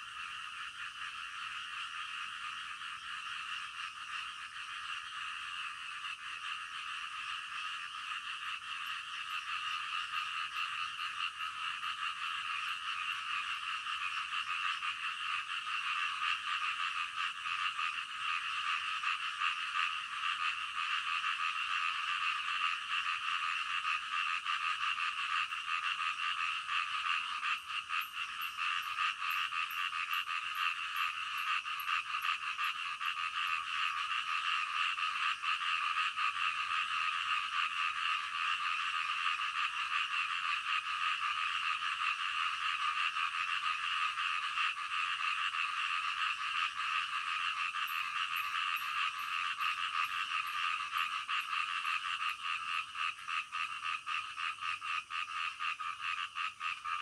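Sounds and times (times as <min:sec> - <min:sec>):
chorus of frogs calling: 0:00.0 - 0:57.0.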